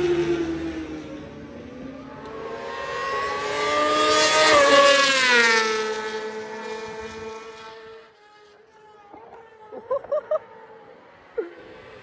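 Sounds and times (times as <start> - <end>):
motorcycle passing at high revs: 0.0 - 8.6, 10.4 - 12.0.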